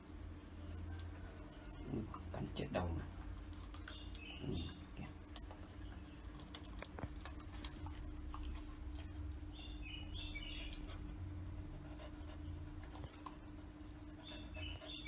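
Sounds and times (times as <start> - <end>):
faint steady hum: 0.0 - 15.0
dog chewing wet crunches: 0.8 - 15.0.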